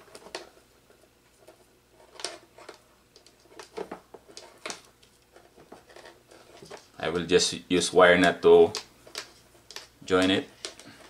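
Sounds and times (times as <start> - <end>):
wires rustling and scraping: 0.0 - 11.0.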